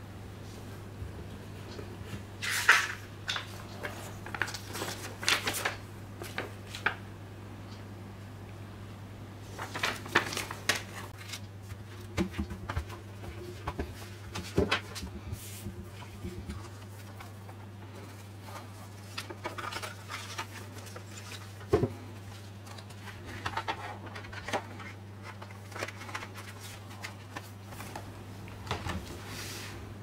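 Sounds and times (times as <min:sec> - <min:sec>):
steady low hum: 0:00.0 - 0:30.0
paper and card rustling: 0:01.6 - 0:07.0, 0:09.4 - 0:29.8.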